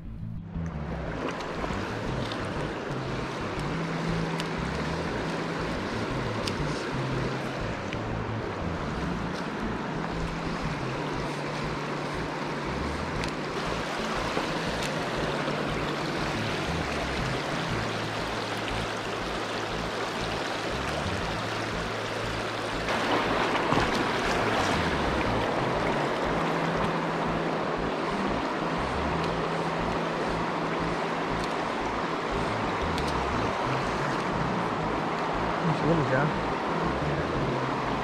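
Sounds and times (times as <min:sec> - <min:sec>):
stream rushing over riffles: 0:01.1 - 0:38.0.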